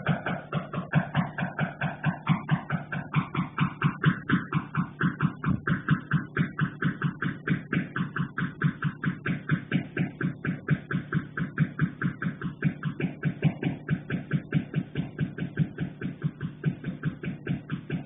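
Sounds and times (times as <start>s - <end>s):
rapid knocking on a pipe: 0.0s - 18.0s.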